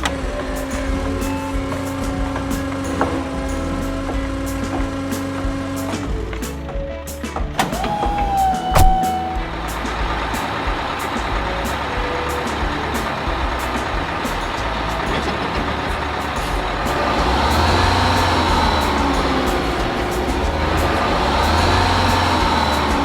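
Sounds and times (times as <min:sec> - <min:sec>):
heavy vehicle engine running: 0:00.0 - 0:06.8, 0:07.5 - 0:23.0.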